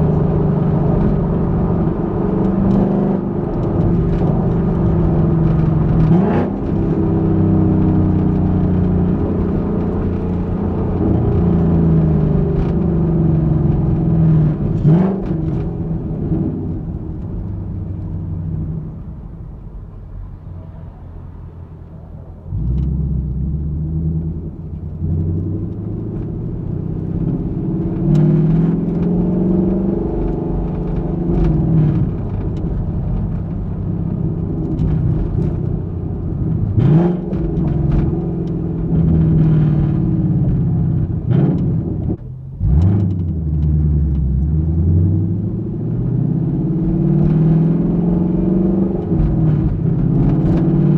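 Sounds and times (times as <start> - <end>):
car exhaust accelerating: 0.0 - 50.9.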